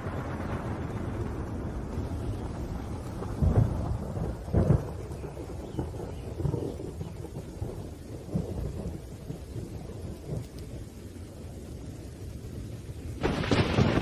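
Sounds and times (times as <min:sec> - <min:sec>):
sharp thunder crack: 0:00.0 - 0:10.5, 0:13.2 - 0:14.0
rain falling: 0:00.0 - 0:14.0
thunder rumbling: 0:00.0 - 0:14.0.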